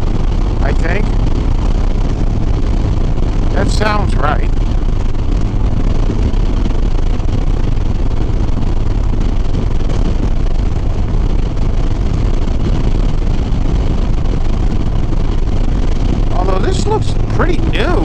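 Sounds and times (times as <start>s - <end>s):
motorcycle engine drone: 0.0s - 18.0s
road noise: 0.0s - 18.0s
wind rush over microphone: 0.0s - 18.0s.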